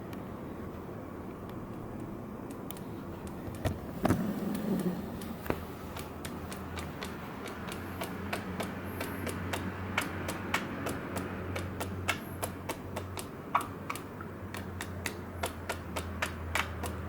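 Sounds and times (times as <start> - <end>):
low steady hum: 0.0 - 17.0
sharp tapping clicks: 1.5 - 3.8, 4.5 - 17.0.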